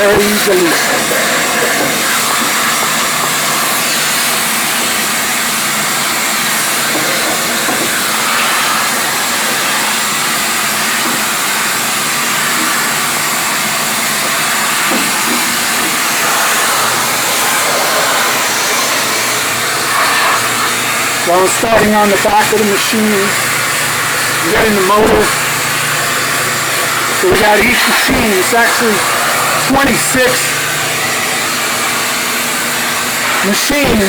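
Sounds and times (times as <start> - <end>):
machinery rushing air noise: 0.0 - 34.0.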